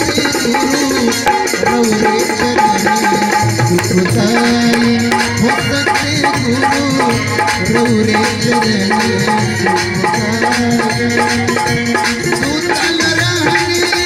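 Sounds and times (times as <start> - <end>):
fast hand percussion: 0.0 - 14.0
harmonium and keyboard melody: 0.0 - 14.0.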